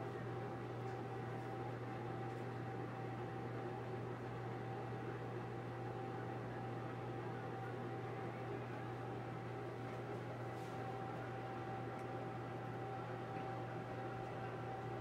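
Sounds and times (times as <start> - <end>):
cooling fan humming: 0.0 - 15.0
faint steady whine: 0.0 - 15.0.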